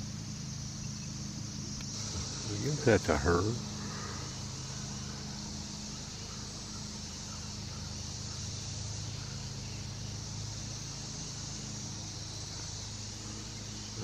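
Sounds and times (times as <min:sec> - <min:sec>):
insect chorus: 0:00.0 - 0:14.0
low hum: 0:00.0 - 0:14.0.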